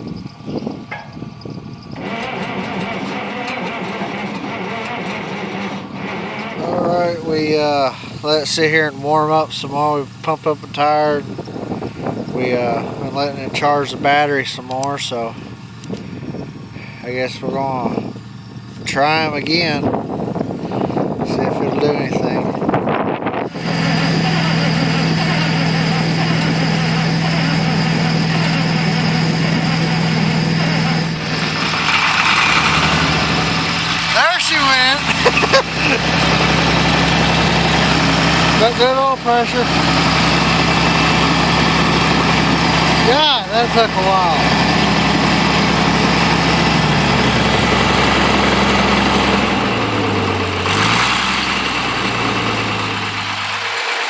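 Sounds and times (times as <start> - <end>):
tractor engine cranking and starting: 0.0 - 54.0.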